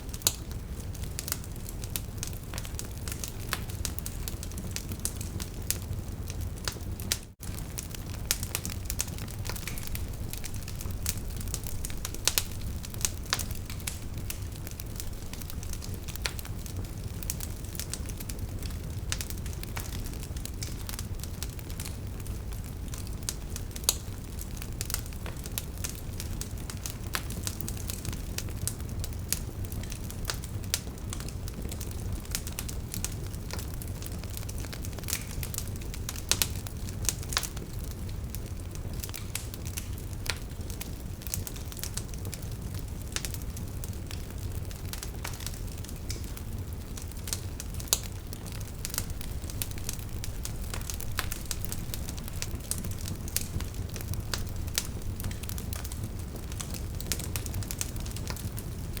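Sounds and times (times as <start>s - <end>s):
low rumble of flames: 0.0s - 59.0s.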